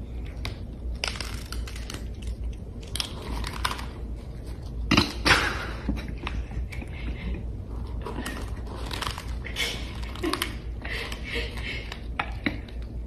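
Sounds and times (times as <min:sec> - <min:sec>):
cats crunching dry kibble: 0:00.1 - 0:13.0.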